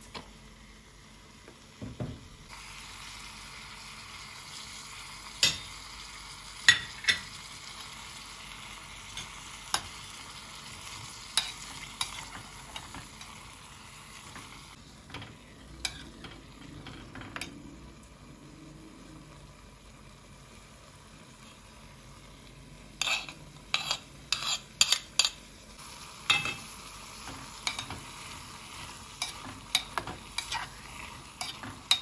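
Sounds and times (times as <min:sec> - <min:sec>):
food sizzling in a pan: 0:00.0 - 0:32.0.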